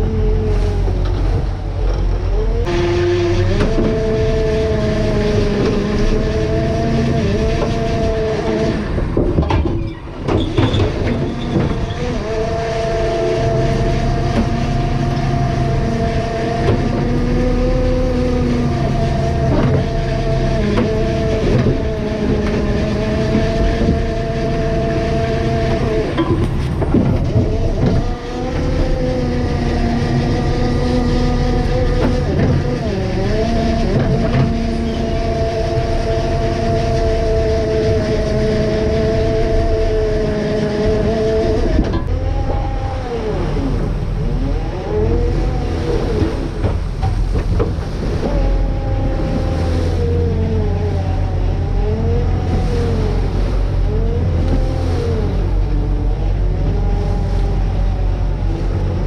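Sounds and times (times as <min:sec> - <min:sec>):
boat engine and machinery hum: 0:00.0 - 0:59.0
rush of the sea: 0:00.0 - 0:59.0.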